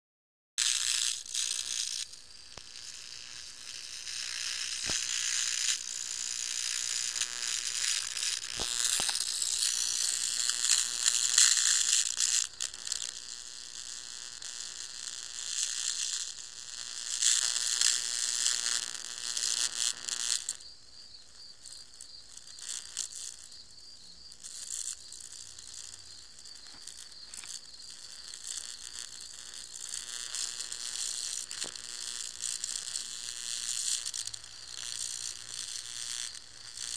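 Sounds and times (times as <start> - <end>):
bug zapper arcing hiss: 0.6 - 20.7, 21.3 - 36.9
bug zapper crackle: 0.6 - 20.7, 21.3 - 36.9.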